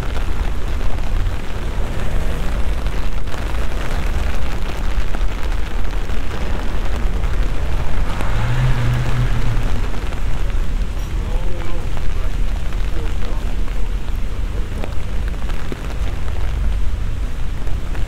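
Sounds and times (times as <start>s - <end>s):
deep steady rumble: 0.0s - 18.0s
light rain on wet street: 0.0s - 18.0s.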